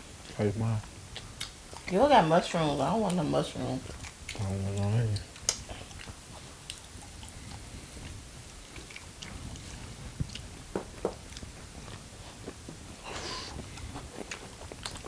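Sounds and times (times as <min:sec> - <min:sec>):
chewing with mouth smacks: 0:00.2 - 0:02.0, 0:03.1 - 0:15.0.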